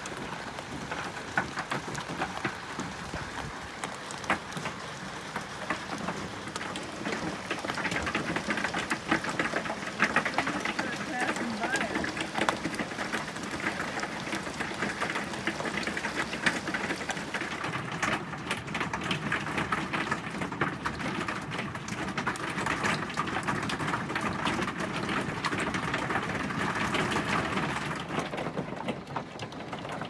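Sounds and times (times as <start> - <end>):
hail hitting roof: 0.0 - 30.0.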